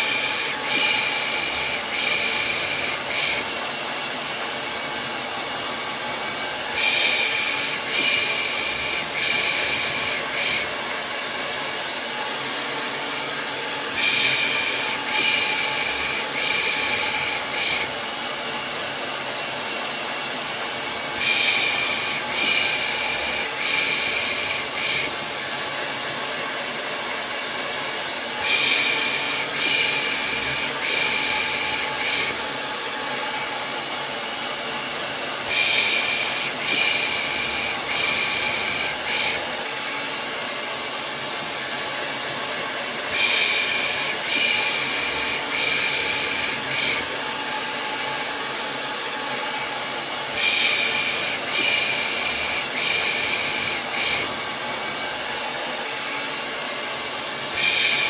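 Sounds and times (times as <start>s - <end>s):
hair dryer whirring: 0.0s - 58.0s.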